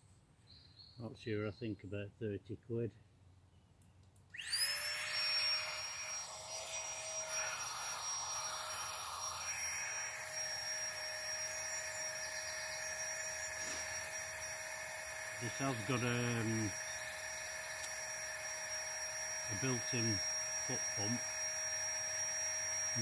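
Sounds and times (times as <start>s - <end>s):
air pump whining: 4.3s - 23.0s.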